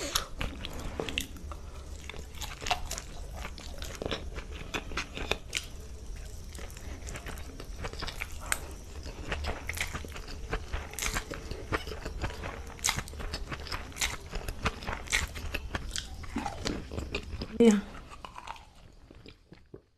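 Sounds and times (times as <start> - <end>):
chewing and sucking noodles: 0.0 - 19.9.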